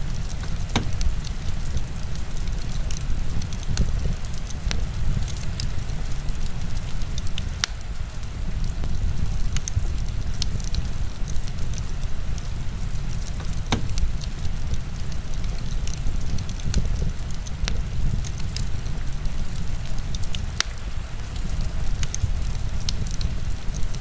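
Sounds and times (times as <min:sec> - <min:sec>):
heavy rain: 0:00.0 - 0:24.0
wood fire crackling: 0:00.0 - 0:24.0.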